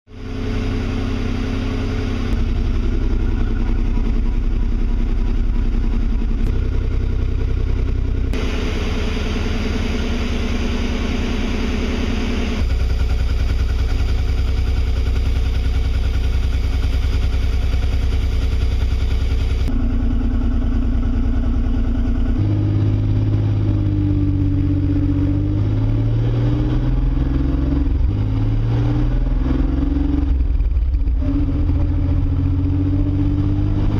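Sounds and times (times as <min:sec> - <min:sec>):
car engine running and revving: 0:00.1 - 0:33.9.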